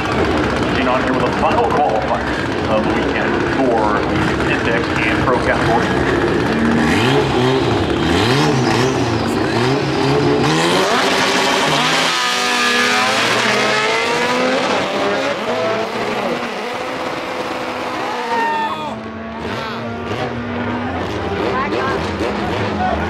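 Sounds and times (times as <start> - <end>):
car engines revving: 0.0 - 23.0
cars accelerating hard: 0.0 - 23.0.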